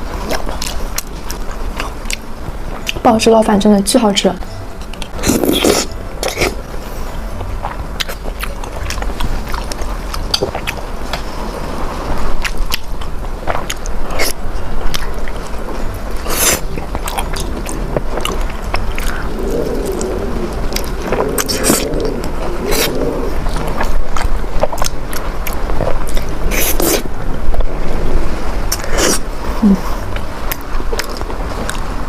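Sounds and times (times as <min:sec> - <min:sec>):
steady low hum: 0:00.0 - 0:32.0
person chewing food: 0:00.2 - 0:03.0, 0:04.8 - 0:11.3, 0:12.1 - 0:27.7, 0:28.7 - 0:31.9.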